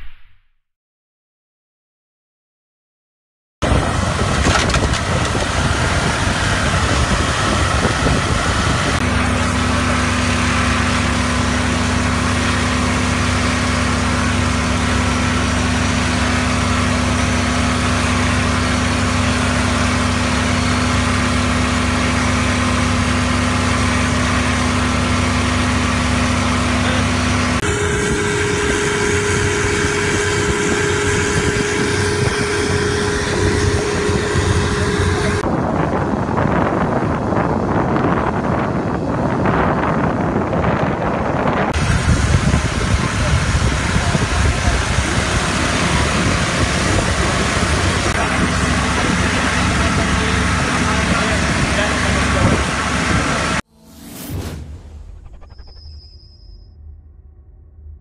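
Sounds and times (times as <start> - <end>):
boat engine running: 3.6 - 54.0.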